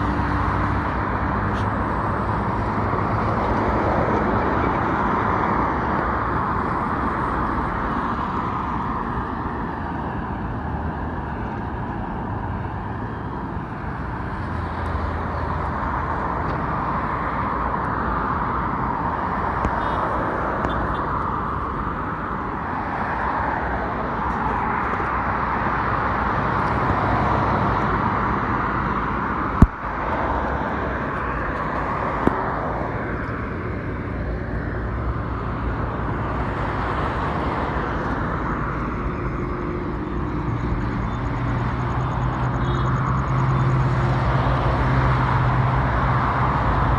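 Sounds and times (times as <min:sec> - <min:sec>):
highway traffic passing: 0:00.0 - 0:46.9.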